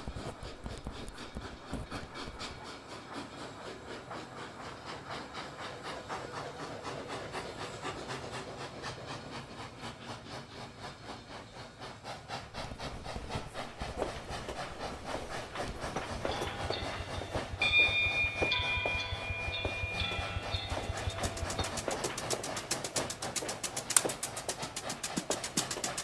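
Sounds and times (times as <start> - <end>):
train rumbling rattle on track: 0.0 - 26.0.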